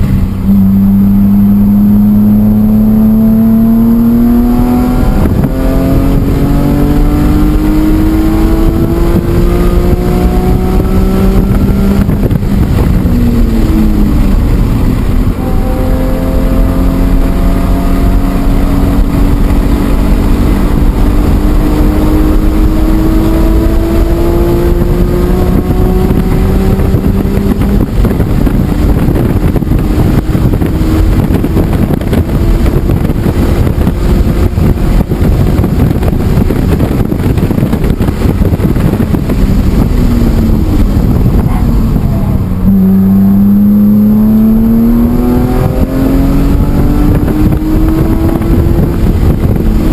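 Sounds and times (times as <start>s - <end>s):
car engine accelerating hard: 0.0s - 49.9s
wind and road noise: 0.0s - 49.9s.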